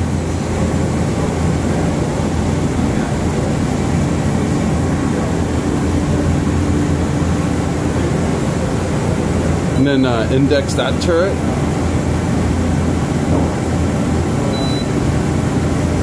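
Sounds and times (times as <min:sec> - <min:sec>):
faint machine whine: 0:00.0 - 0:16.0.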